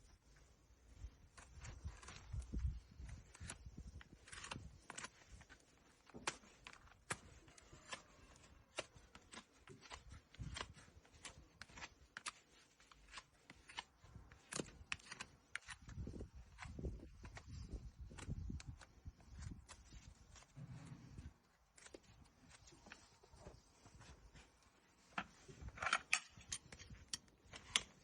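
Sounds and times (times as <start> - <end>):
hoof trimming clicks and snips: 1.3 - 28.0.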